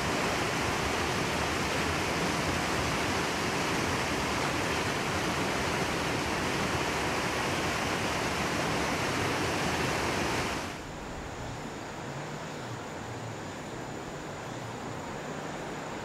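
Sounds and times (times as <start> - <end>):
river water rushing over rapids: 0.0 - 16.0.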